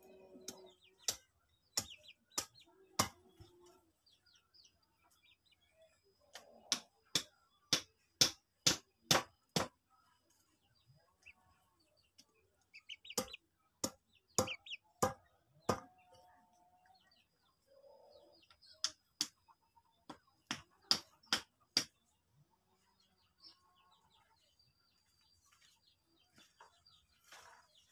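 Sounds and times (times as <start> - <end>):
faint birds chirping: 0.0 - 27.9.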